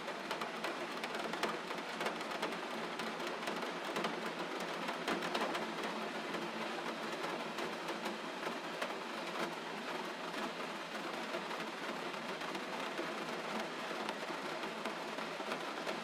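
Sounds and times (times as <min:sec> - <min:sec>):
gentle rain falling: 0:00.0 - 0:16.0.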